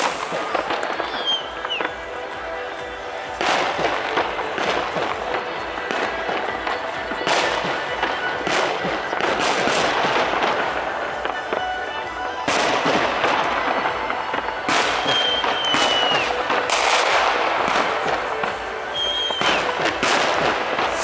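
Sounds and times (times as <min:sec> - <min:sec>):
fireworks bursting with loud bangs: 0:00.0 - 0:21.0
fireworks crackling: 0:00.0 - 0:21.0.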